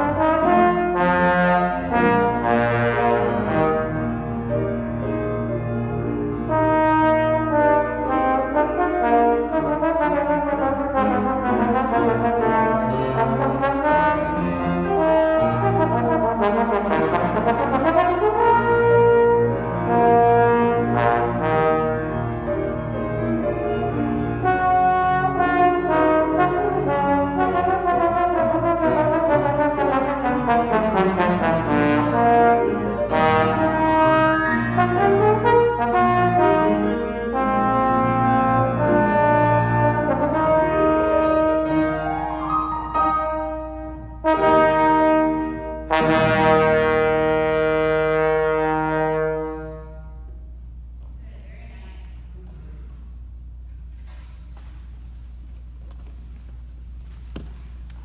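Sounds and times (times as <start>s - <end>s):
slide trombone solo: 0.0s - 4.8s, 6.3s - 50.4s
grand piano accompaniment: 0.0s - 51.3s, 52.2s - 58.0s.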